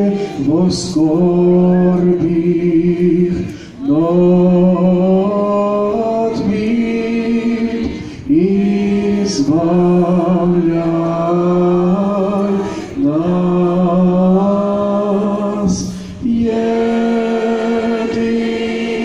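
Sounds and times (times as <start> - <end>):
crowd singing a hymn: 0.0 - 19.0.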